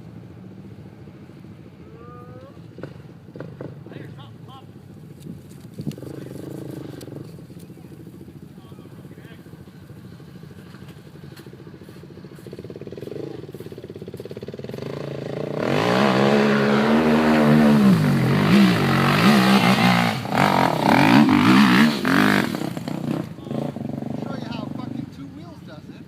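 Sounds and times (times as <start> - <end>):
off-road vehicle engine revving: 1.8 - 4.4, 5.8 - 25.6.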